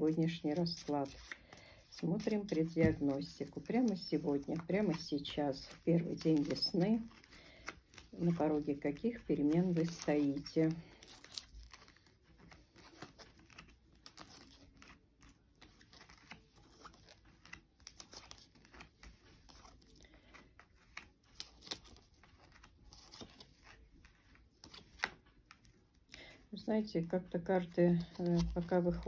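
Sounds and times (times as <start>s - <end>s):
playing cards shuffling: 0.2s - 26.3s.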